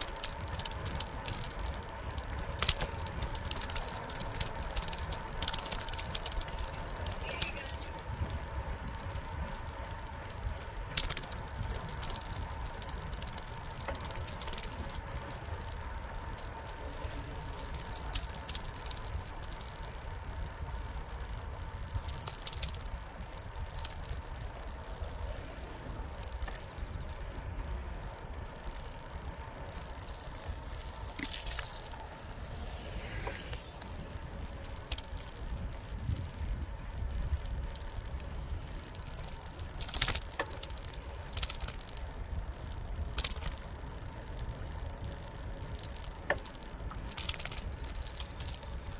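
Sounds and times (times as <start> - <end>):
bike clicks and rattles: 0.0 - 48.9
tyre and wind rumble: 0.0 - 48.9.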